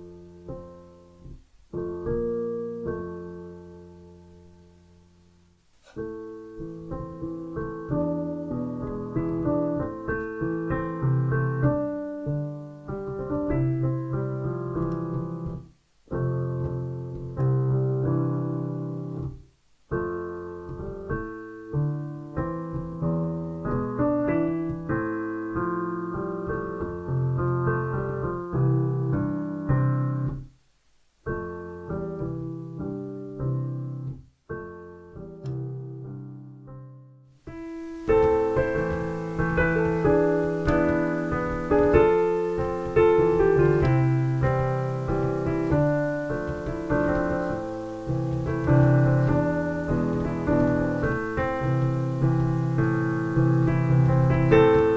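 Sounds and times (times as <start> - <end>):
piano melody over chords: 0.0 - 30.5, 31.2 - 54.9.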